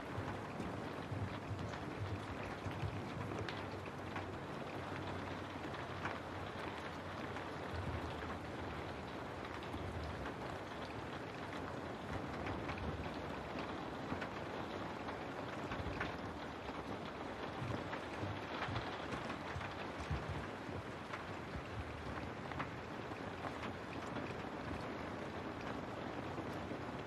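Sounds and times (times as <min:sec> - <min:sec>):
raindrops ticking: 0:00.0 - 0:27.0
steady rain hiss: 0:00.0 - 0:27.0.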